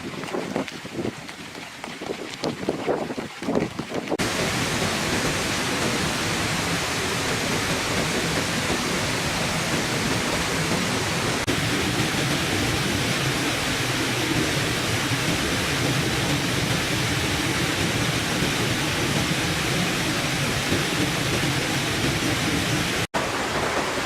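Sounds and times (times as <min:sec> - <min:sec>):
waterfall pouring into pond: 0:00.0 - 0:24.0.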